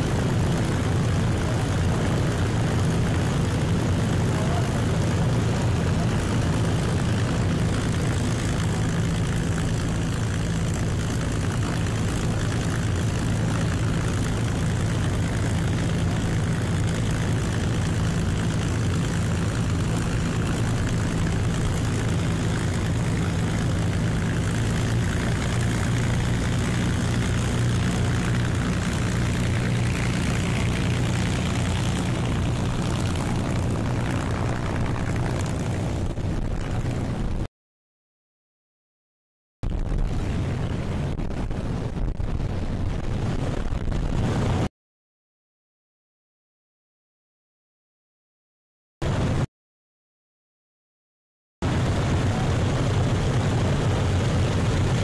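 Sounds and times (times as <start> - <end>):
propeller aircraft engines droning: 0.0 - 37.5, 39.6 - 44.7, 49.0 - 49.5, 51.6 - 55.0.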